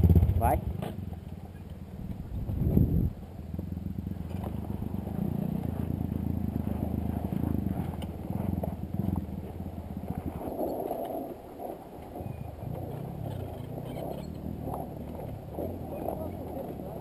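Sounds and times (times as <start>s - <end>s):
dirt bike engine idling: 0.0s - 10.8s, 11.6s - 17.0s.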